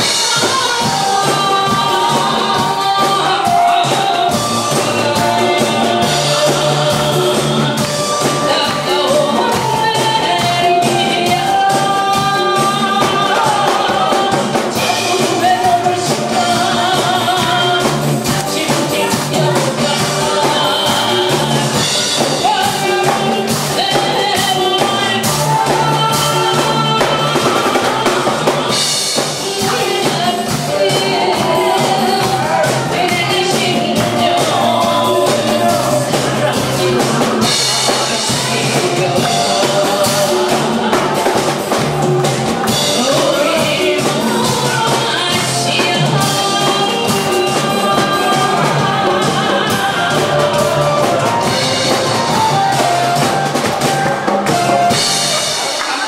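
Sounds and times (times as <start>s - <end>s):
woman singing into a microphone: 0.0s - 55.1s
drum kit: 0.0s - 56.0s
loud amplified accompaniment: 0.0s - 56.0s.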